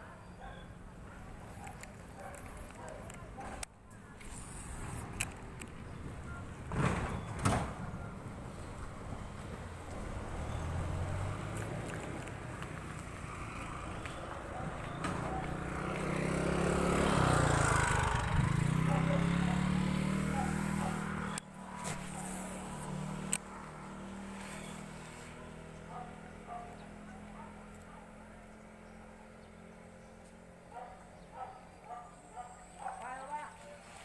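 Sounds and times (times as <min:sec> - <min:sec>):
vehicle engine passing by: 0:01.3 - 0:34.0.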